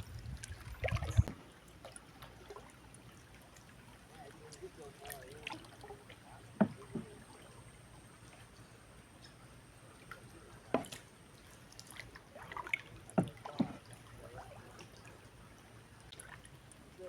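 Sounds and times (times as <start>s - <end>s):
faint steady background noise: 0.0s - 17.0s
water splashes and drips: 0.0s - 17.0s.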